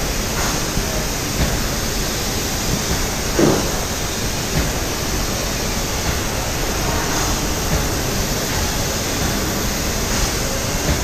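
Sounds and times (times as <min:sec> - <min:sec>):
spray gun hissing: 0:00.0 - 0:11.0.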